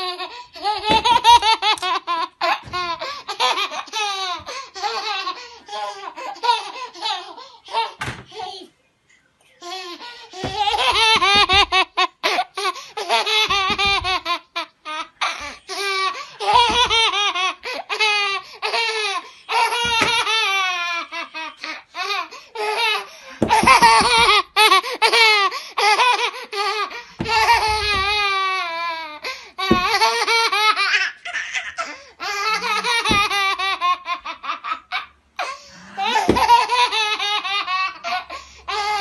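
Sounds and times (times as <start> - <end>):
toddler laughing: 0.0 - 8.7, 9.6 - 39.0.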